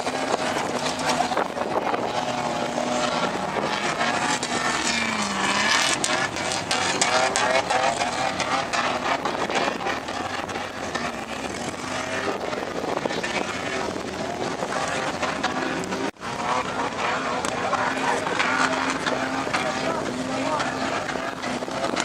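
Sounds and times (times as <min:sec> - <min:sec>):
sharp engine crackles: 0:00.0 - 0:22.0
vehicle engines revving: 0:00.0 - 0:22.0.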